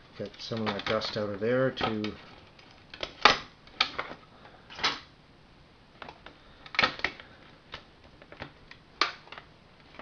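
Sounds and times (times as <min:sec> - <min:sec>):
plastic parts clicking and knocking: 0:00.2 - 0:05.1, 0:06.0 - 0:10.0.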